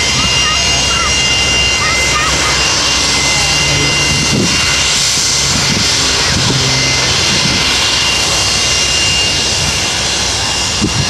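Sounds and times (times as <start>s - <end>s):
jet engines whining while taxiing: 0.0s - 11.0s.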